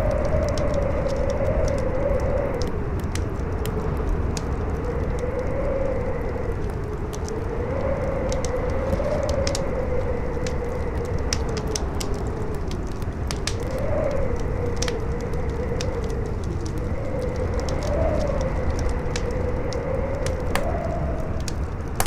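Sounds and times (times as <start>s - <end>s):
campfire crackling: 0.0s - 22.0s
strong wind howling: 0.0s - 22.0s.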